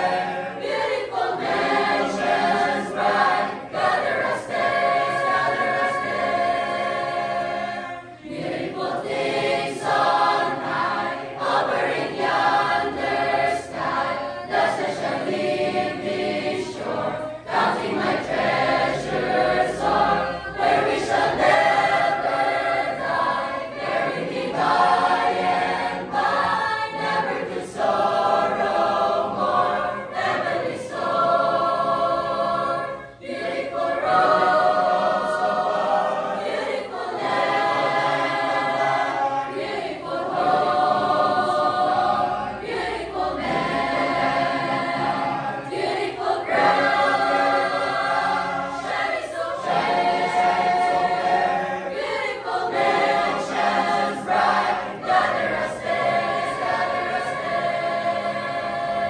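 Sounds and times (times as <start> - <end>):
youth choir singing a cappella: 0.0 - 59.0.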